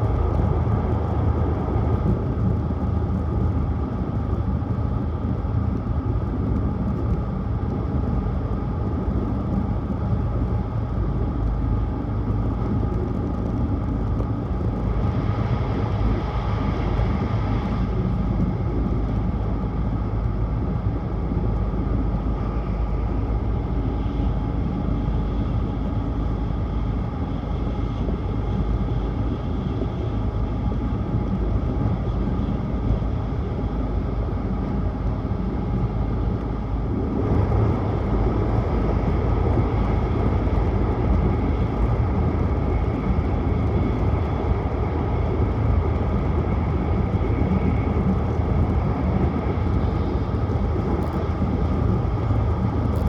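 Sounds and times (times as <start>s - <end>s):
train running at speed: 0.0s - 53.0s.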